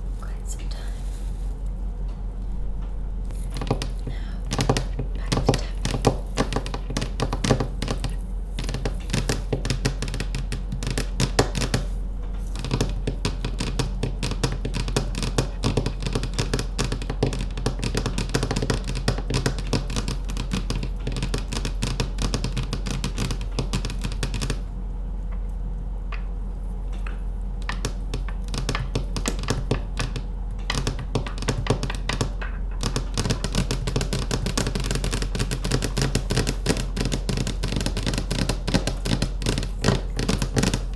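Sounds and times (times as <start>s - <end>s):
steady low hum: 0.0s - 40.9s
fingernails tapping hard objects: 3.3s - 24.6s, 26.1s - 40.9s.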